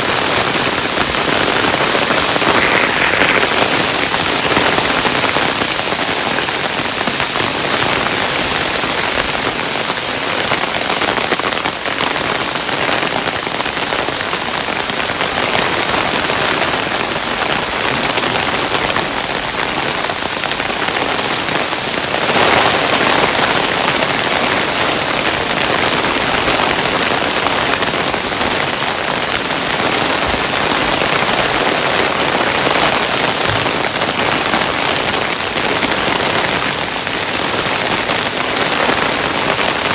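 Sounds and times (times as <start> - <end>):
hailstones pattering: 0.0 - 39.9.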